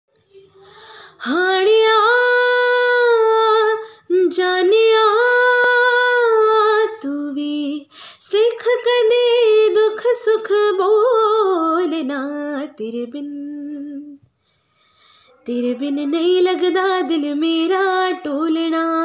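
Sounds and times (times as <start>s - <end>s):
woman singing unaccompanied: 1.1s - 14.3s, 15.4s - 19.0s.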